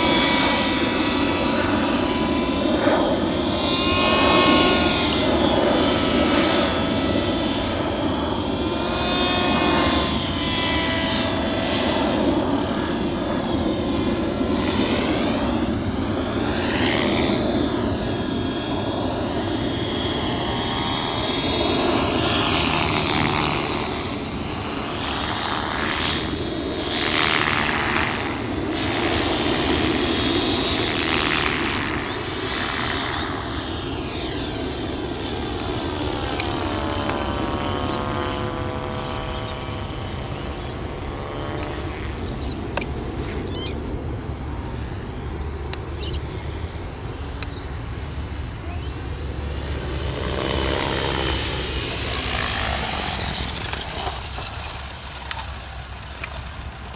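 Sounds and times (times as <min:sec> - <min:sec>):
rc helicopter motor whine: 0:00.0 - 0:56.9
rotor noise: 0:00.0 - 0:56.9.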